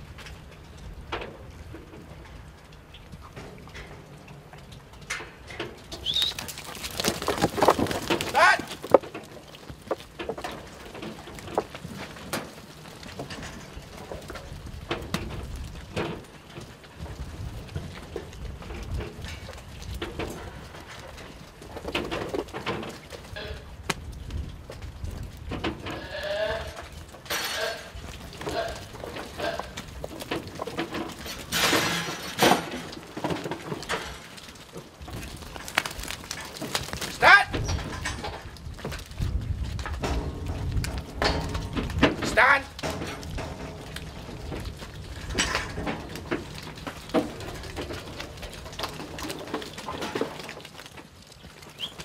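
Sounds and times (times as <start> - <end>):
hooves knocking and clicking: 0.0 - 52.0
sheep shifting in a pen: 0.0 - 52.0.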